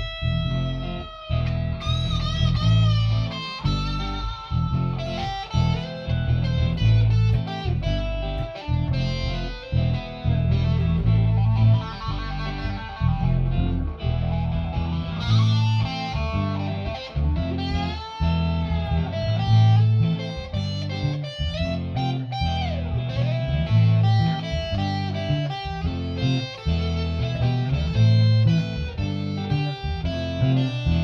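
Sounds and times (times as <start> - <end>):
bass line: 0.0 - 31.0
electric guitar shuffle: 0.0 - 31.0.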